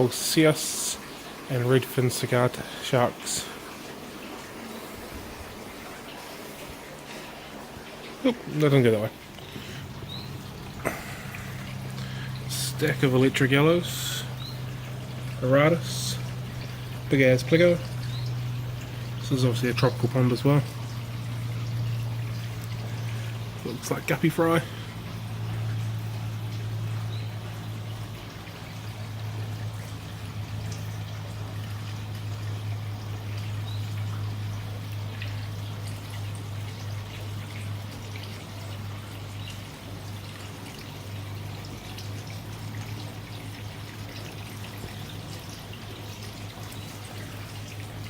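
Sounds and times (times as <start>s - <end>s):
water trickling into a pond: 0.0s - 48.0s
steady low hum: 0.1s - 41.4s.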